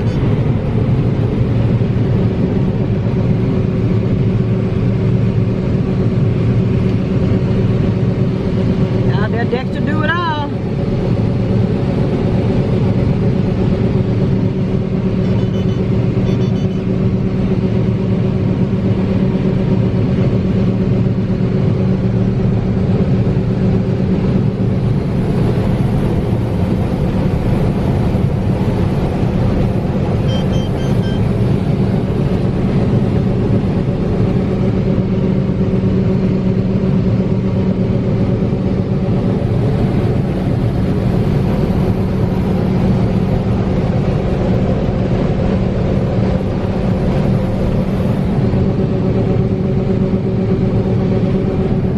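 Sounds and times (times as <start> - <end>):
large engine droning: 0.0 - 51.9.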